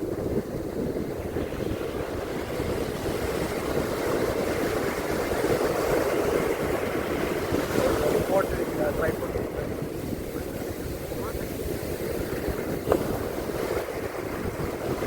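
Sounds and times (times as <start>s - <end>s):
sea waves washing on beach: 0.0s - 15.0s
wind buffeting microphone: 0.0s - 15.0s.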